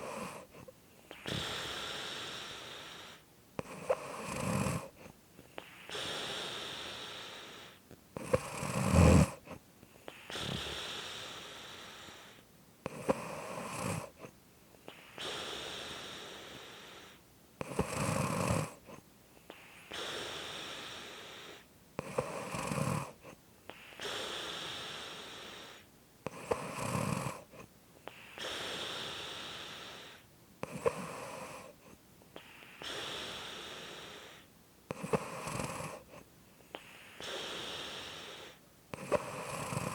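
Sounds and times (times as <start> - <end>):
airy breath: 0.0 - 4.2, 4.8 - 7.8, 9.1 - 12.5, 13.1 - 17.9, 18.8 - 26.6, 27.4 - 39.9
low rasping snore: 0.0 - 14.3, 14.9 - 39.9.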